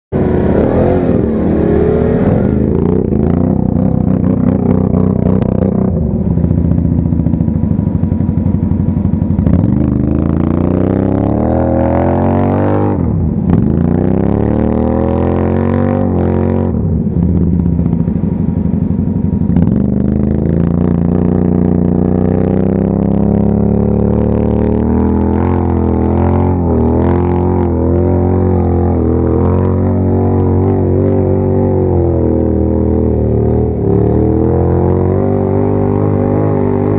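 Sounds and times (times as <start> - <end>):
atv engines revving: 0.1 - 36.9.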